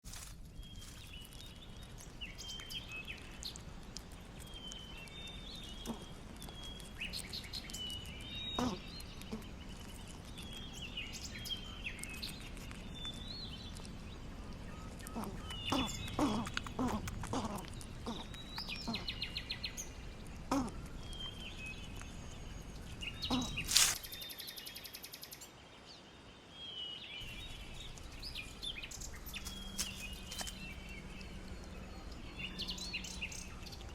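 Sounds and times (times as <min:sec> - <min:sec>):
outdoor background hum: 0:00.1 - 0:24.3, 0:27.2 - 0:33.9
small birds chirping: 0:00.1 - 0:33.9.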